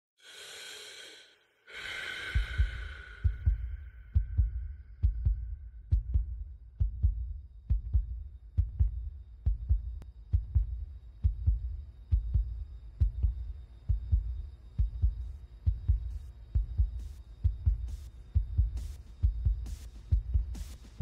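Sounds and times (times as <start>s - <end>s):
heartbeat thumps: 2.2s - 21.0s.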